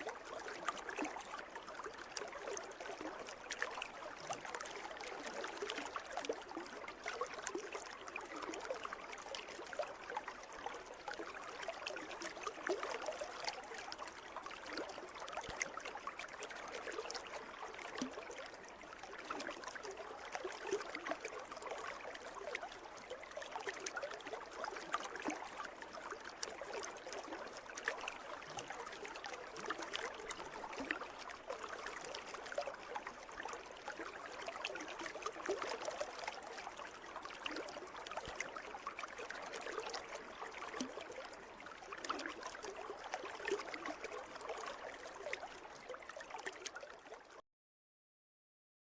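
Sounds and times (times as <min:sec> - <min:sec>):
water splashing and trickling: 0:00.0 - 0:47.4.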